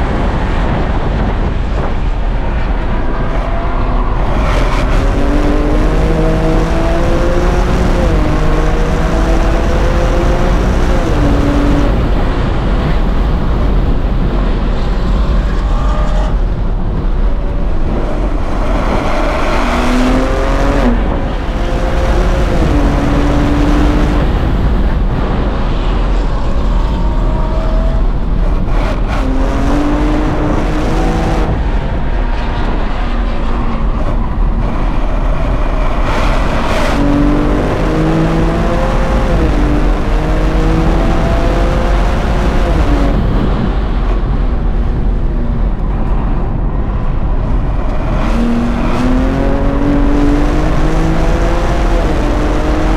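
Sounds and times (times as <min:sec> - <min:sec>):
car engine running hard: 0:00.0 - 0:52.9
wind and road noise: 0:00.0 - 0:52.9.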